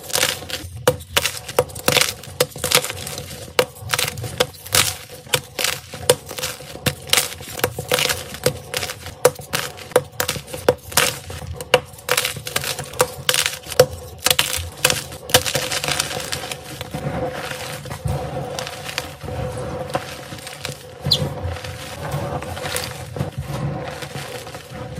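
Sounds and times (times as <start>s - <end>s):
chalk snapping and crunching: 0.0s - 24.9s.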